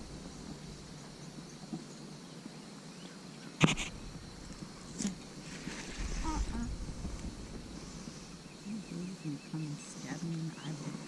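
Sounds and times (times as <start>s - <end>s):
faint high insect hiss: 0.0s - 11.0s.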